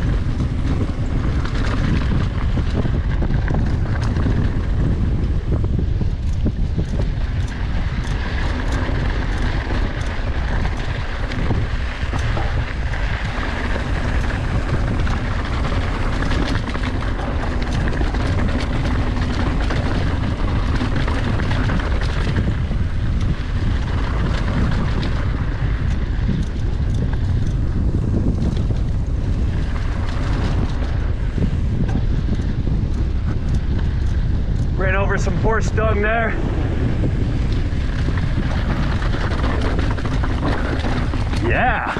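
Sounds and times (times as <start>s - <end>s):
bike clicks and rattles: 0.0s - 41.9s
bike tyres on dirt trail: 0.0s - 41.9s
wind rush on microphone: 0.0s - 41.9s.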